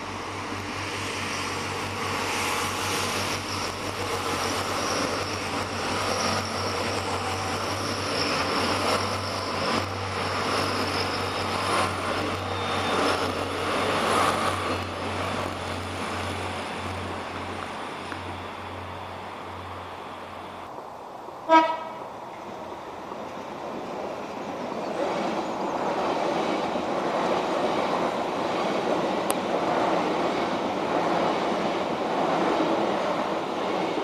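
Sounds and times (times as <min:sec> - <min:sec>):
diesel train passing: 0:00.0 - 0:34.0.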